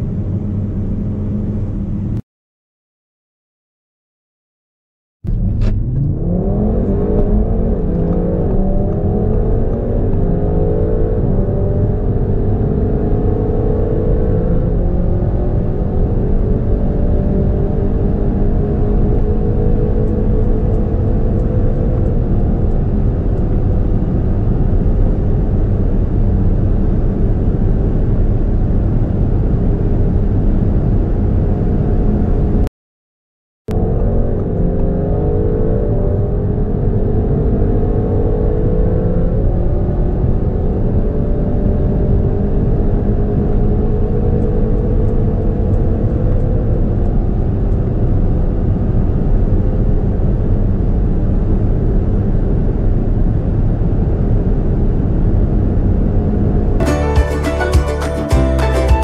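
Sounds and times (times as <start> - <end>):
car engine at full throttle: 0.0 - 2.2, 5.3 - 32.7, 33.7 - 59.0.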